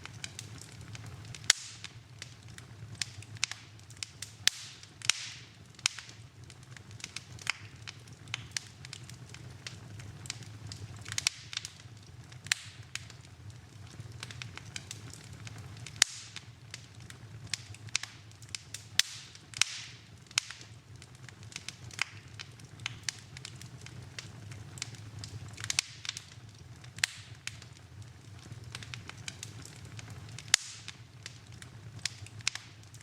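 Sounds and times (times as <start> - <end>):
fire crackling and popping: 0.0 - 33.0
fire hissing: 0.0 - 33.0
low rumble of flames: 0.0 - 33.0.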